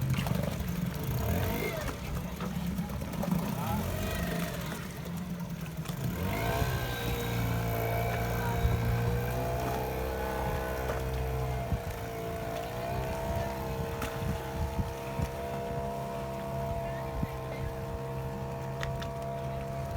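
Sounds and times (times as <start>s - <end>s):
boat engine droning: 0.0s - 19.9s
engine whine: 0.0s - 19.9s.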